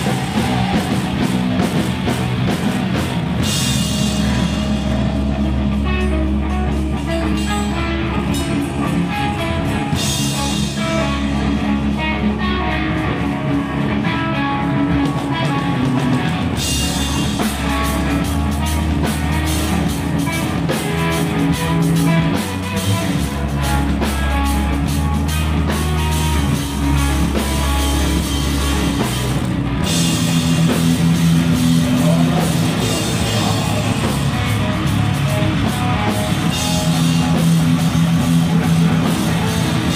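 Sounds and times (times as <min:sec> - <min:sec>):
drum kit with cymbals: 0:00.0 - 0:13.7, 0:14.8 - 0:39.9
bass guitar: 0:00.0 - 0:39.9
electric guitar: 0:00.0 - 0:39.9.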